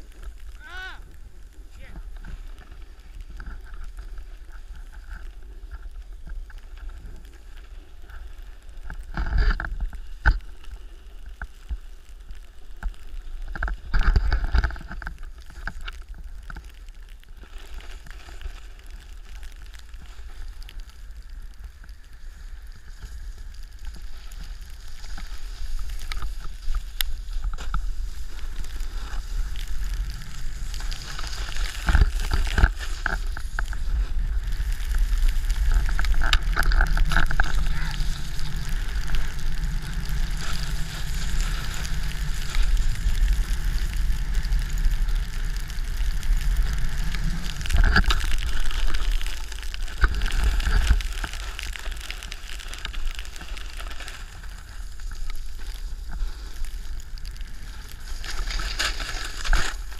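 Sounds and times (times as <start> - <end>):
snowboard scraping over snow: 0.0 - 59.9.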